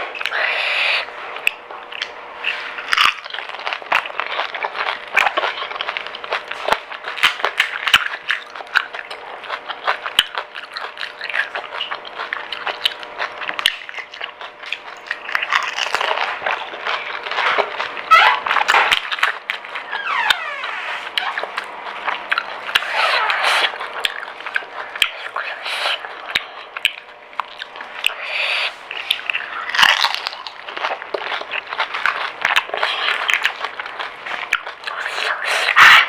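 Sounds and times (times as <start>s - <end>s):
crunching and chewing crisp snack: 0.0s - 36.0s.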